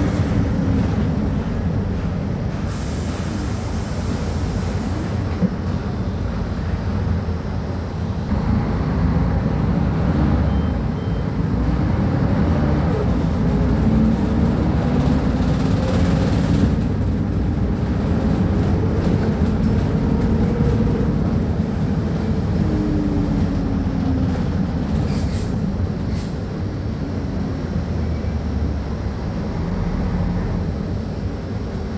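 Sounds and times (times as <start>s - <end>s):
bus diesel engine rumbling: 0.0s - 31.9s.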